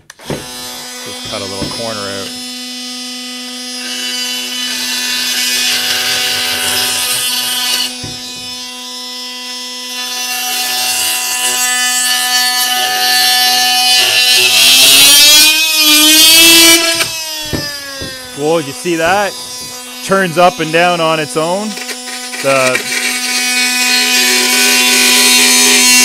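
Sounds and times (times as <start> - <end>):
oscillating multi-tool cutting wood: 0.0 - 26.0.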